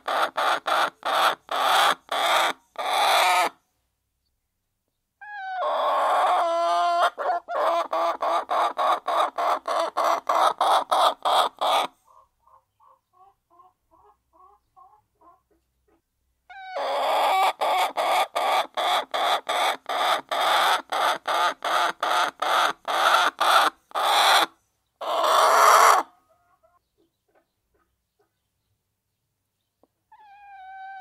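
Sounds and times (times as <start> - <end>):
hen clucking and cackling: 0.0 - 3.6, 5.2 - 28.5, 29.8 - 31.0.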